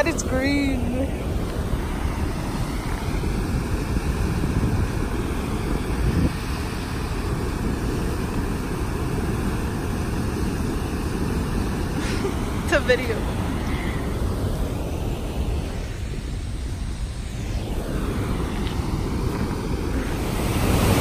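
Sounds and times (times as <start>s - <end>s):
water gushing and churning: 0.0s - 21.0s
wind buffeting microphone: 0.0s - 21.0s.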